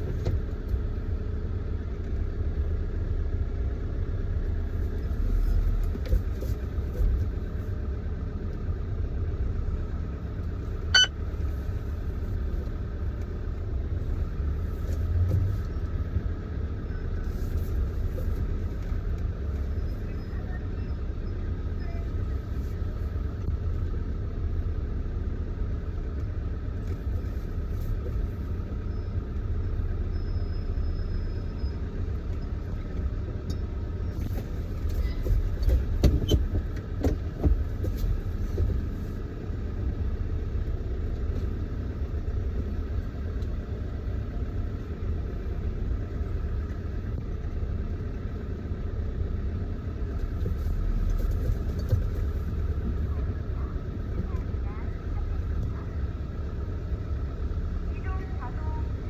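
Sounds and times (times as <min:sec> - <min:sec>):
vehicle engine rumble inside cab: 0:00.0 - 0:59.0.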